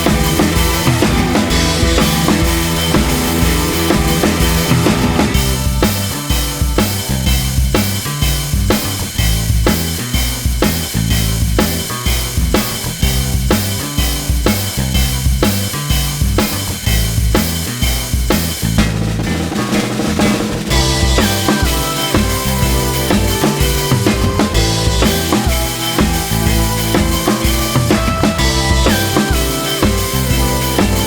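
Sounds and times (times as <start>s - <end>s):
music with drum beat and bass: 0.0s - 31.0s.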